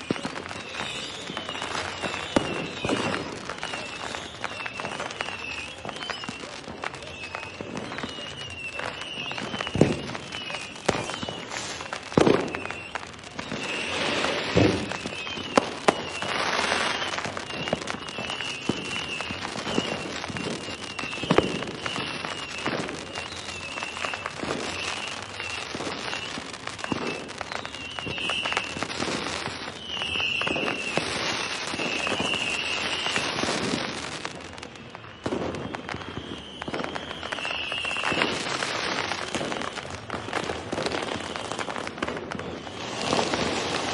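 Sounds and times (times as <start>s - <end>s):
constant crackle: 0.0s - 43.9s
fireworks bangs and cracks: 0.0s - 43.9s.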